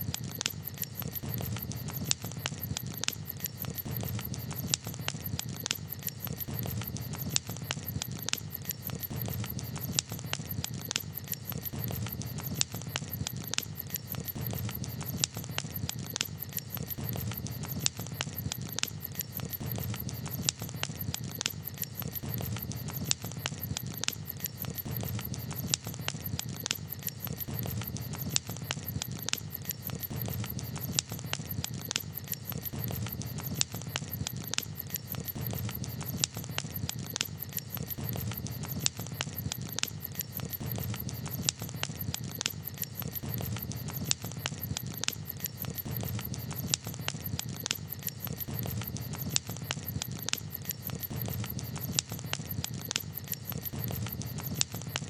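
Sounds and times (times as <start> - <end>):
low rumble of fire: 0.0 - 55.0
campfire pops and snaps: 0.1 - 55.0.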